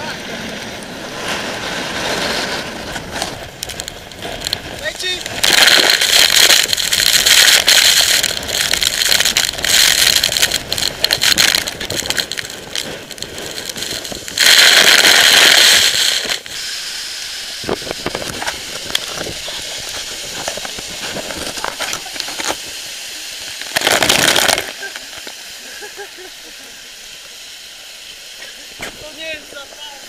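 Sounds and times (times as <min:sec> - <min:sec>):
storm waves breaking: 0:00.0 - 0:26.0
wind-driven spray hiss: 0:00.0 - 0:30.0
water droplets crackling on microphone: 0:02.8 - 0:30.0.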